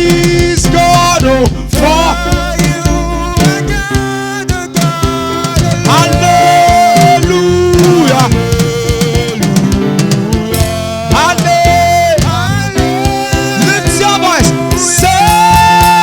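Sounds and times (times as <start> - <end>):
gospel band with drums and guitar: 0.0 - 16.0.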